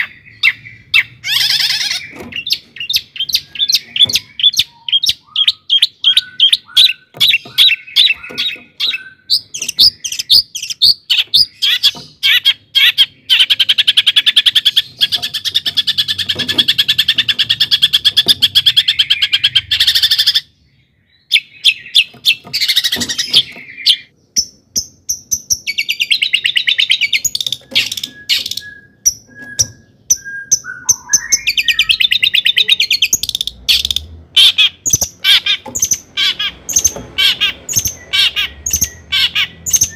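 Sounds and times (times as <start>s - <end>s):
bird singing trills and chips: 0.0s - 39.9s.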